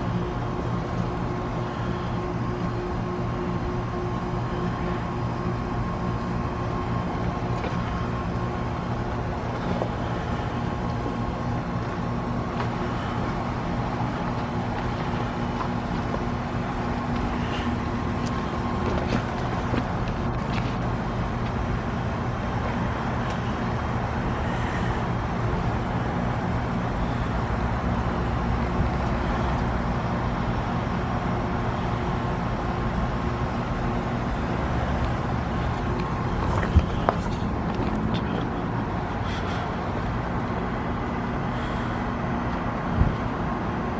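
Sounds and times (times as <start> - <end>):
heat pump compressor hum: 0.0 - 43.9.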